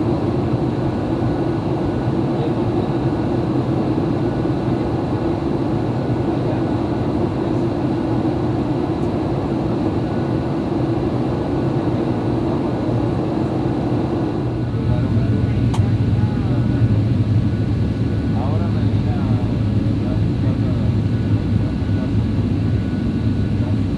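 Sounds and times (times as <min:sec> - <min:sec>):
airplane cabin engine drone: 0:00.0 - 0:23.9.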